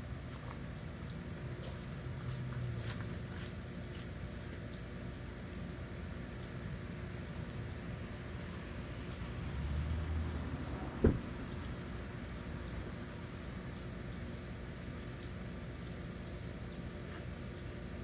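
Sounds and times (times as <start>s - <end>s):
low steady background noise: 0.0s - 18.0s
faint ticks: 0.1s - 10.8s, 11.5s - 18.0s.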